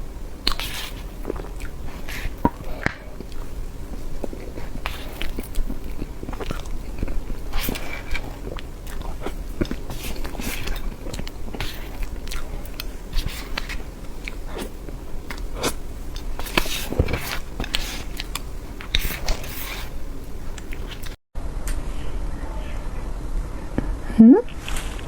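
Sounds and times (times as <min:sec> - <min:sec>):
eating and chewing cake: 0:00.0 - 0:21.2.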